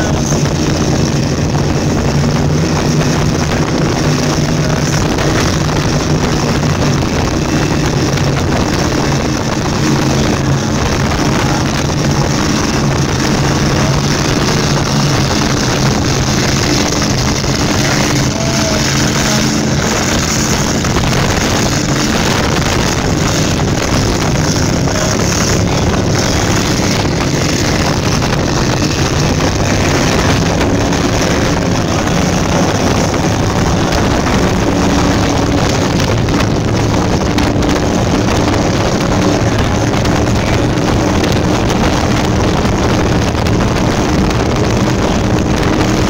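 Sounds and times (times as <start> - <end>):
powerboat engine drone: 0.0 - 46.0
rushing water and spray: 0.0 - 46.0
wind buffeting microphone: 0.0 - 46.0.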